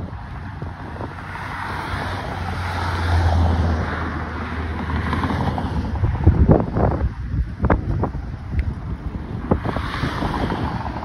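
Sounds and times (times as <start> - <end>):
motor vehicle low hum: 0.0 - 11.0
wind rushing over microphone: 0.0 - 11.0.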